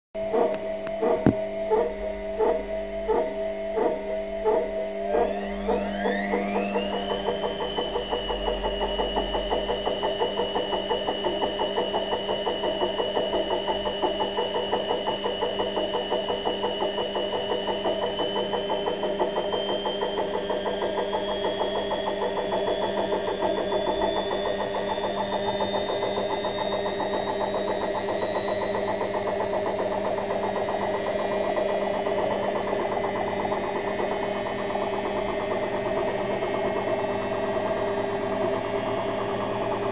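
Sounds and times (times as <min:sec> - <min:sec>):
washing machine humming: 0:00.2 - 0:39.9.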